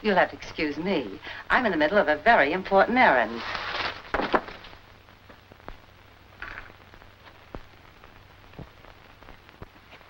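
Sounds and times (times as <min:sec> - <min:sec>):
film soundtrack hiss and hum: 0:00.0 - 0:10.0.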